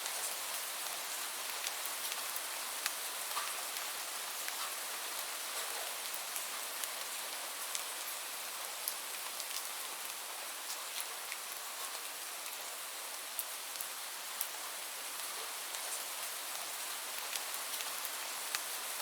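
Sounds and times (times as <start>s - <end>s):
raindrops ticking on surface: 0.0s - 14.6s, 15.2s - 19.0s
steady rain hiss: 0.0s - 19.0s.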